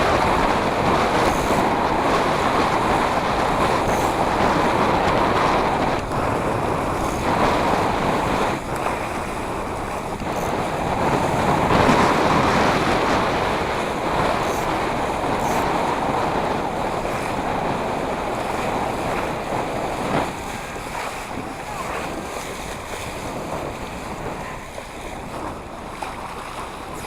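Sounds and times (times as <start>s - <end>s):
water splashing along hull: 0.0s - 27.0s
wind on microphone: 0.0s - 27.0s.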